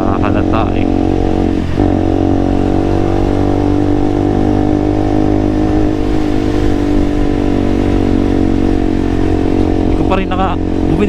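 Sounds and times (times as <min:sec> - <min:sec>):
motorcycle engine running: 0:00.0 - 0:11.0
wind rumbling on microphone: 0:00.0 - 0:11.0.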